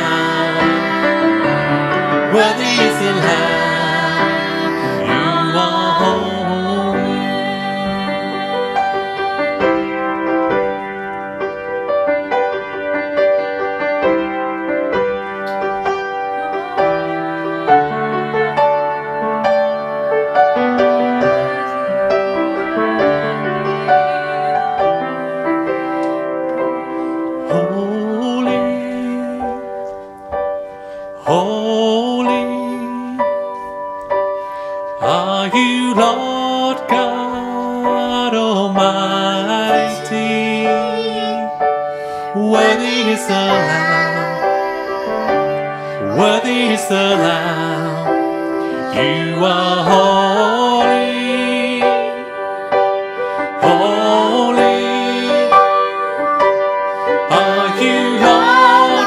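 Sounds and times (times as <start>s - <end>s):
person singing: 0.0s - 10.9s, 15.4s - 33.8s, 34.4s - 59.0s
piano playing slow chords: 0.0s - 59.0s.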